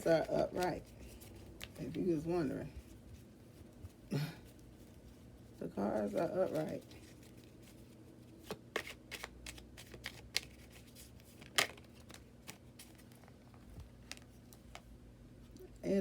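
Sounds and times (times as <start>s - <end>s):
cards being shuffled: 0.0s - 14.9s.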